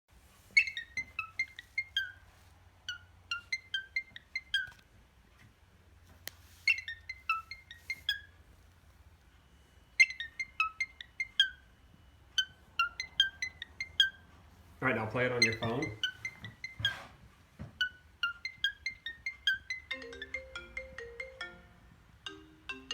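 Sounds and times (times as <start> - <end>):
cockatiel whistling a melody: 0.4 - 4.8, 6.5 - 8.4, 9.6 - 22.9.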